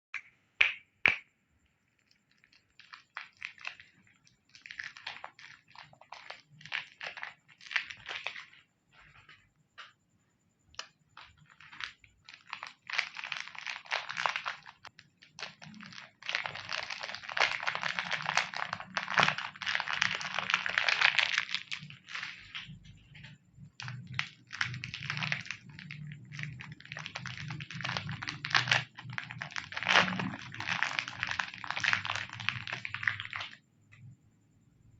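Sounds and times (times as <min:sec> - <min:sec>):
plastic wrappers crinkling: 0:01.9 - 0:09.4, 0:10.8 - 0:33.6.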